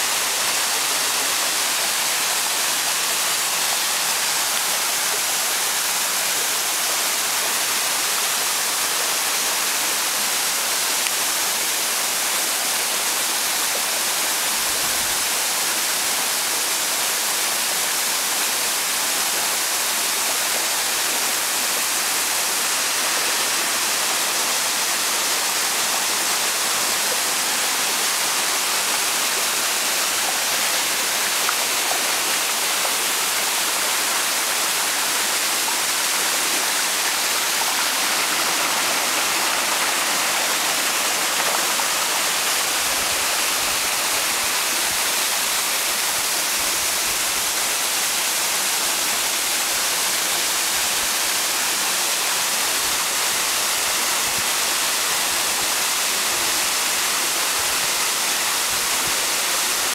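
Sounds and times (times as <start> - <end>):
waterfall and rushing stream: 0.0 - 59.9.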